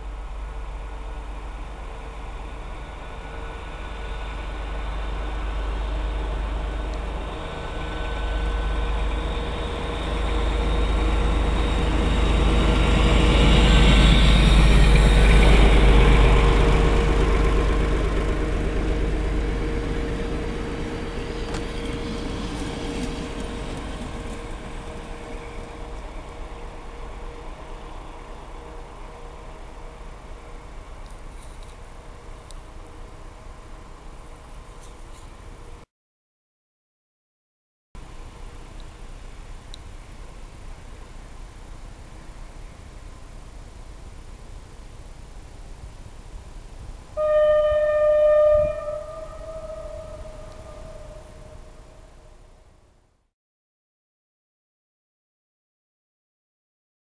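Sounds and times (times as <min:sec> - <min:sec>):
passenger train rumbling past: 0:00.0 - 0:35.8, 0:38.0 - 0:53.1.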